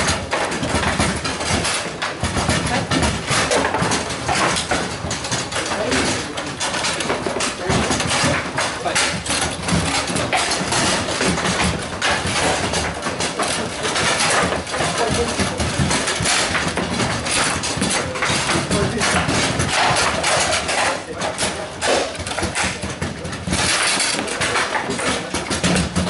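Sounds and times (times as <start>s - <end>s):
rods clacking: 0.0s - 26.0s
table football balls knocking: 0.0s - 26.0s.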